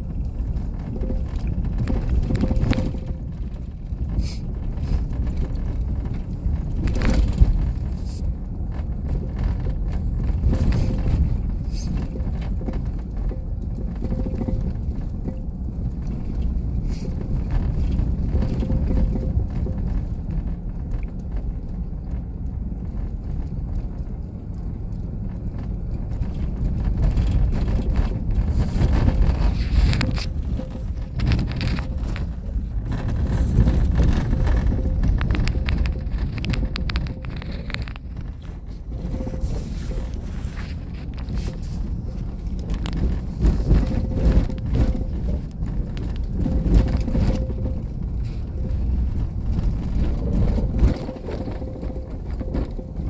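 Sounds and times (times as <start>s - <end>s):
tyre and road rumble: 0.0s - 53.0s
van knocks and rattles: 0.0s - 53.0s.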